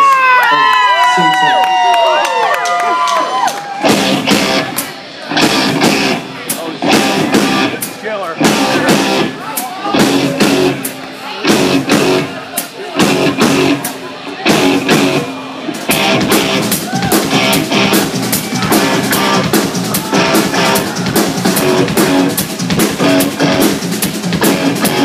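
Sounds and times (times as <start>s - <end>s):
electric guitar: 3.7s - 12.4s, 13.0s - 25.0s
bass guitar: 3.7s - 25.0s
drum kit beat with cymbals: 3.8s - 25.0s.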